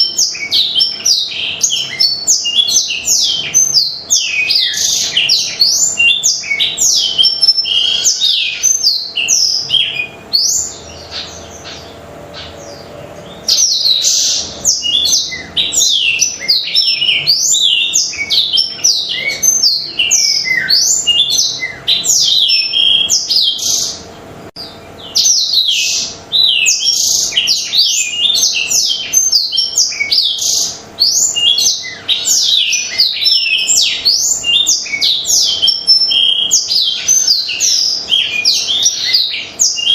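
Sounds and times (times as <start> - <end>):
canary singing chirps and whistles: 0.0 - 39.9.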